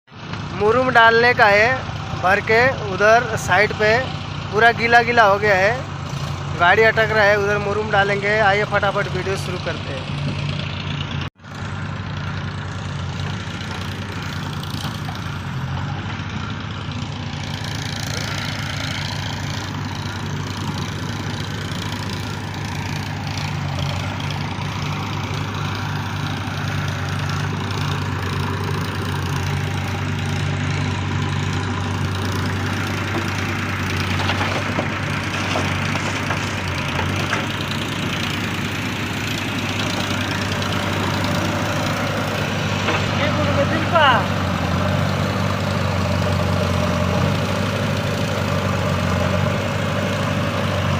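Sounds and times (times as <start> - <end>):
backhoe diesel engine running: 0.1 - 50.9.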